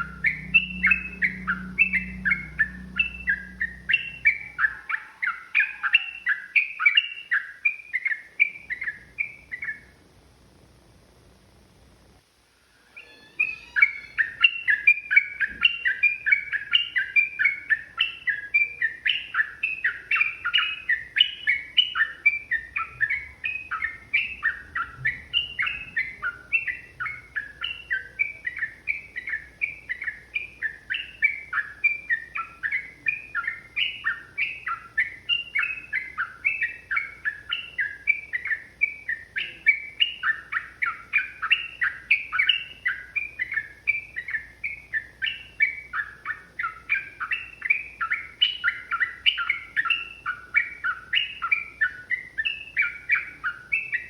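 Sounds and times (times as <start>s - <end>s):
bulbul chattering song: 0.0s - 9.9s, 13.0s - 54.0s.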